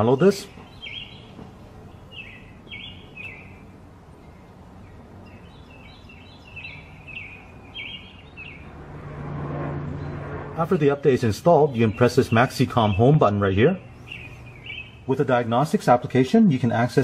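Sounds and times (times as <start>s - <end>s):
bird chirping: 0.0s - 8.7s, 11.2s - 16.3s
steady low hum: 0.0s - 16.2s.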